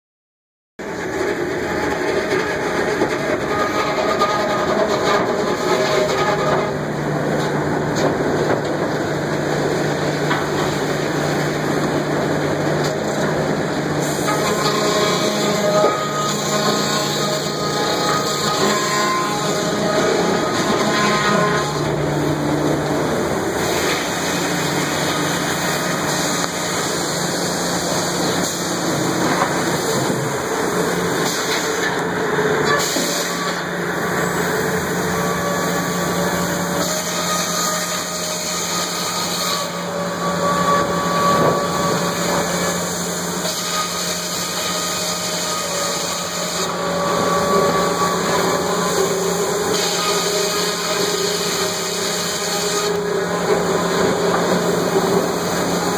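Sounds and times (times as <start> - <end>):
machine whines: 0.8 - 55.9
sawmill machinery din: 0.8 - 55.9.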